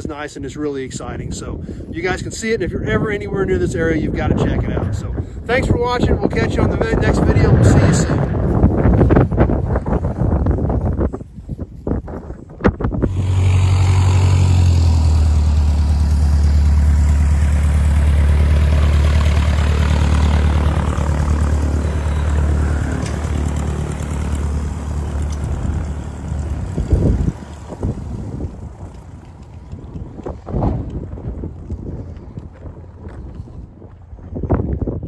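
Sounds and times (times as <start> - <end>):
light aircraft taxiing: 1.3 - 35.0.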